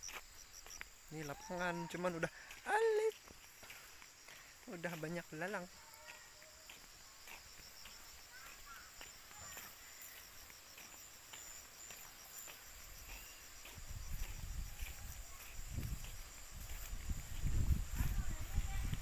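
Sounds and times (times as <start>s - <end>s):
footsteps through grass: 0.0s - 19.0s
insects trilling: 0.0s - 19.0s.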